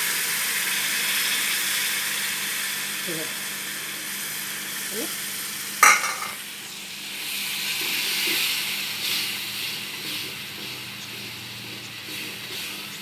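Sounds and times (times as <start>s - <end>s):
gravy sizzling in a frying pan: 0.0s - 13.0s.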